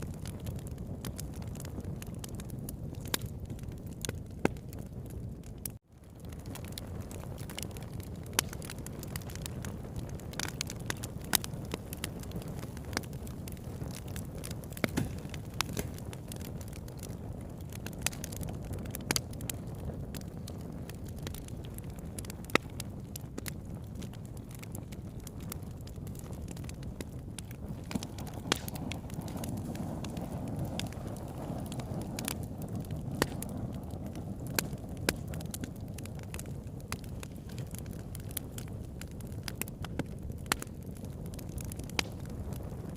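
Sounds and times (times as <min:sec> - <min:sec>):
low steady fire rumble: 0:00.0 - 0:42.9
wood crackling and popping: 0:00.0 - 0:42.9.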